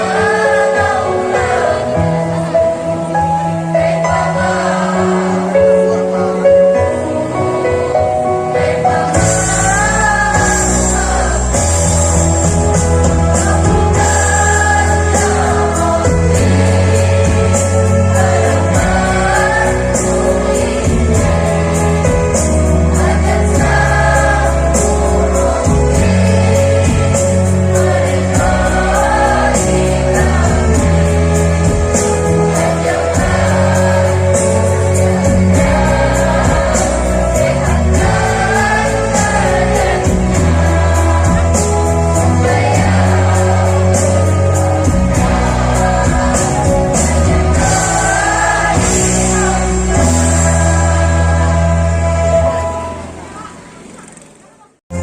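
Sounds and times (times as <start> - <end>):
instrumental accompaniment with beat: 0.0 - 53.3
choir singing in unison: 0.0 - 53.6.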